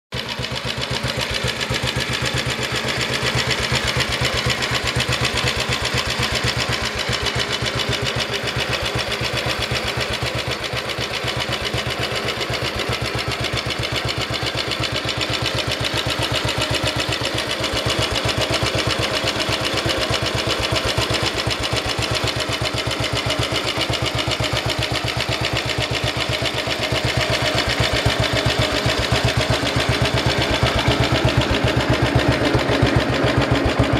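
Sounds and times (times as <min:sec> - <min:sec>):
single-cylinder engine idling: 0:00.1 - 0:33.9.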